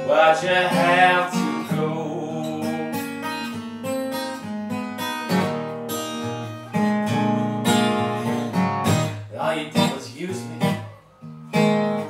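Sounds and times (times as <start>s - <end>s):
acoustic guitar blues: 0.0s - 12.0s.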